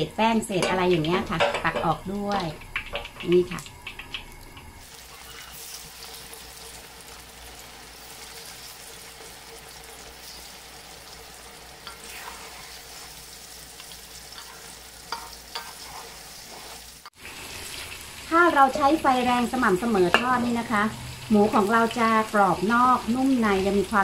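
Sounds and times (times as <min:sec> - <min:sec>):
oil sizzling in wok: 0:00.0 - 0:24.0.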